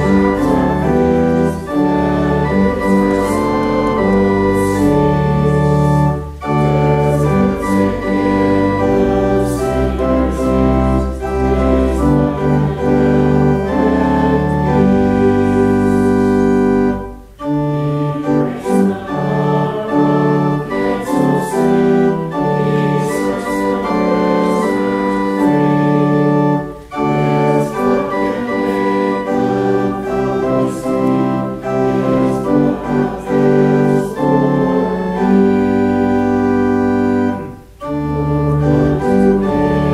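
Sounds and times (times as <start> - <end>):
church organ playing a hymn: 0.0 - 39.9.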